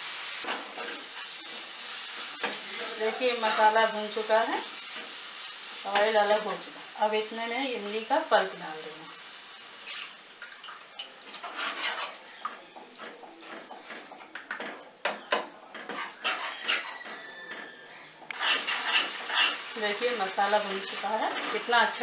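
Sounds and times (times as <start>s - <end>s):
light sizzle: 0.0s - 14.5s, 18.3s - 22.0s.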